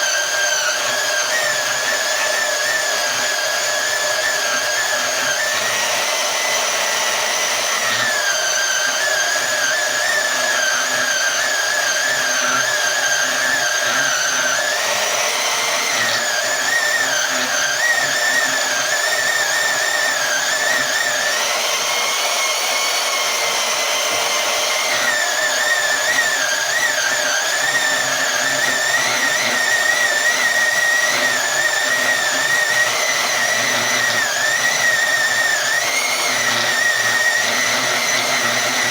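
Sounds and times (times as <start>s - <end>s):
band saw cutting steel: 0.0s - 38.9s.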